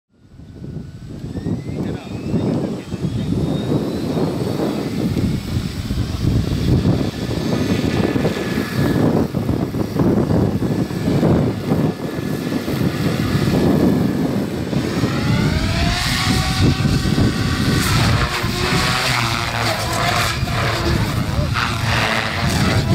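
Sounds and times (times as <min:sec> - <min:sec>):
helicopter rotor chopping whoosh: 0:00.1 - 0:22.9
motor and rotor whine: 0:00.1 - 0:22.9.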